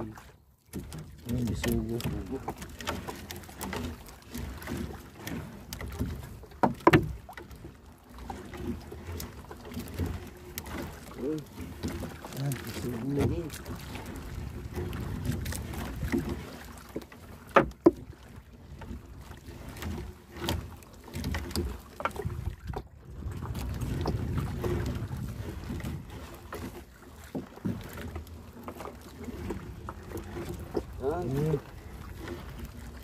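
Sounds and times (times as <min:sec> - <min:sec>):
knocks and clatter against hull: 0:00.0 - 0:33.0
water and wind rumble: 0:00.0 - 0:33.0.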